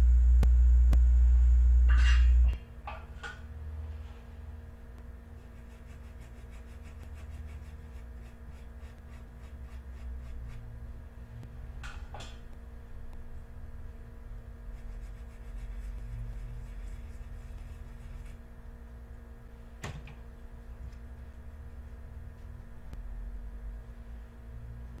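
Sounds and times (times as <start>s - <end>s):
loud low electrical hum: 0.0s - 25.0s.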